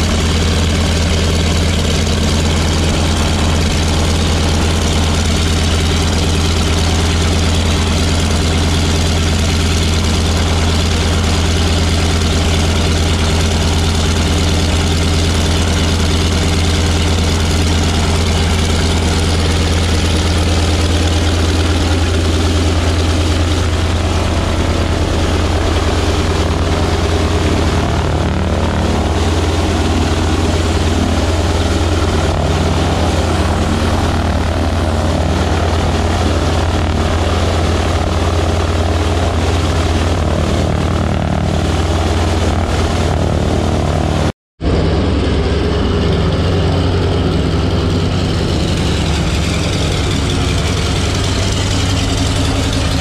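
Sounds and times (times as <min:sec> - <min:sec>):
radial aircraft engine droning: 0:00.0 - 0:53.0.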